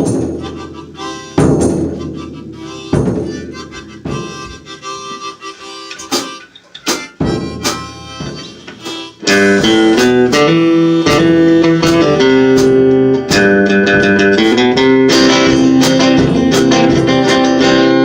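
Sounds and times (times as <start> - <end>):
guitar strumming: 0.0 - 18.0
harmonica: 0.0 - 18.0.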